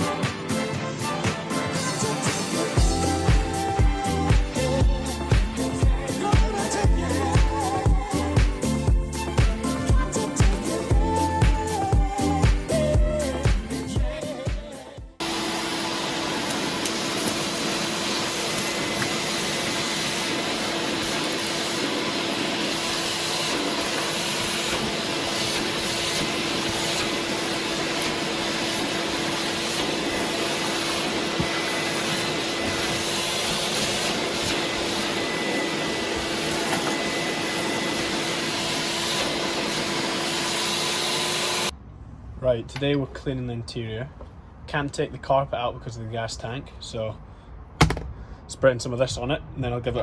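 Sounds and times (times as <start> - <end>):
vacuum cleaner running: 0.0 - 14.4, 15.2 - 41.7.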